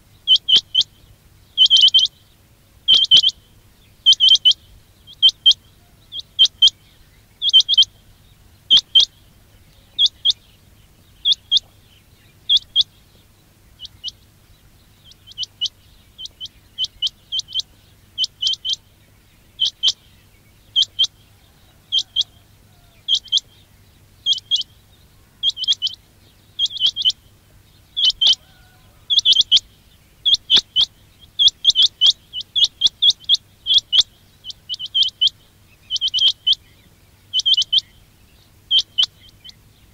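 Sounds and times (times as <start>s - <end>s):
quail calling: 0.2s - 2.2s, 2.9s - 14.4s, 15.0s - 18.9s, 19.5s - 39.9s.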